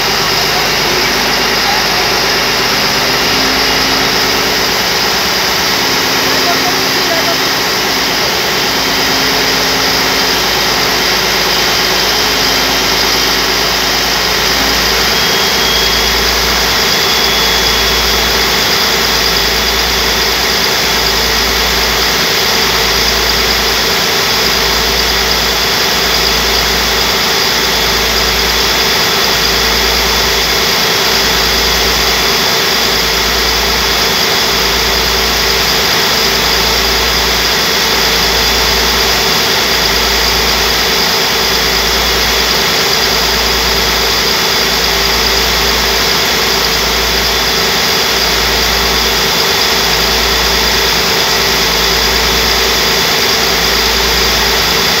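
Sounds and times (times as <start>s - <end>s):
slow low throb: 0.0s - 54.7s
large engine running: 0.0s - 55.0s.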